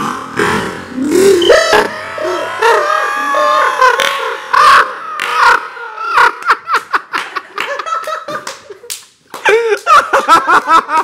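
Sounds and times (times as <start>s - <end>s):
people laughing hard: 1.4s - 11.0s.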